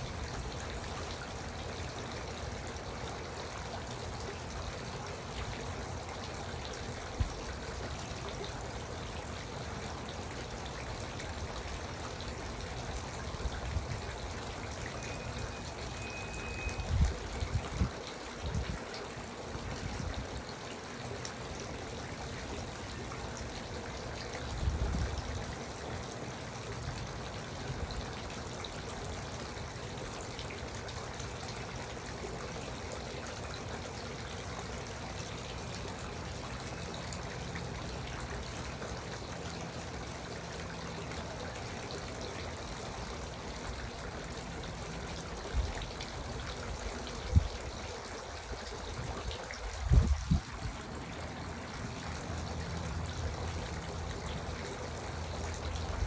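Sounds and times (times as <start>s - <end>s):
fountain trickling and splashing: 0.0s - 56.0s.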